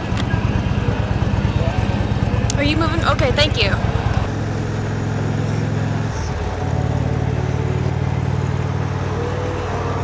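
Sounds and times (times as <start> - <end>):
motorcycle engine cruising: 0.0 - 10.0
wind and road noise: 0.0 - 10.0.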